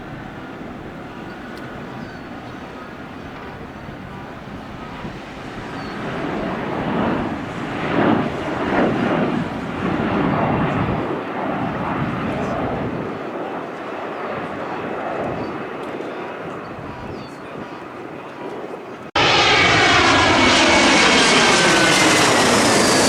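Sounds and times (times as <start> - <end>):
jet airliner engine passing: 0.0 - 23.0.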